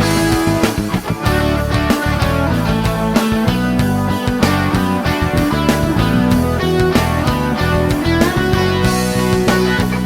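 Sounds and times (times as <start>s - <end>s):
upbeat guitar music: 0.0s - 10.0s.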